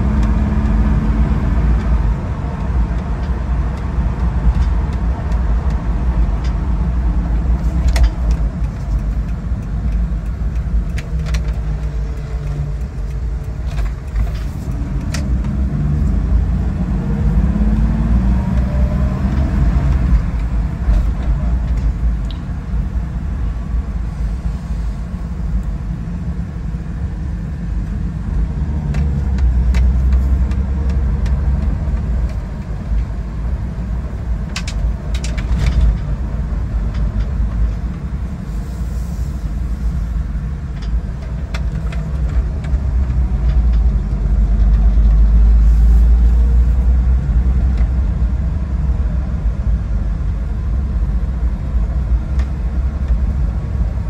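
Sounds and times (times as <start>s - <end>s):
car engine rumble from cabin: 0.0s - 54.0s.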